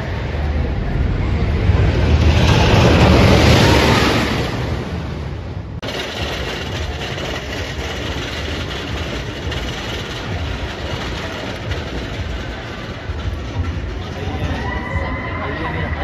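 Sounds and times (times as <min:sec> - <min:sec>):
roller coaster rumbling on wooden track: 0:00.0 - 0:16.0.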